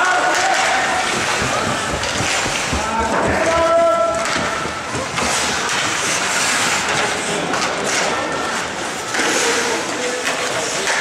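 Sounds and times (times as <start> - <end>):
skates scraping on ice: 0.2 - 11.0.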